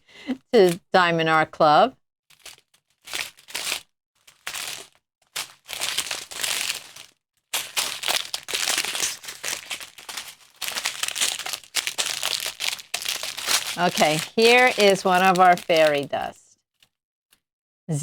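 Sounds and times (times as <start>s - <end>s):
plastic packets crinkling: 2.3s - 17.0s.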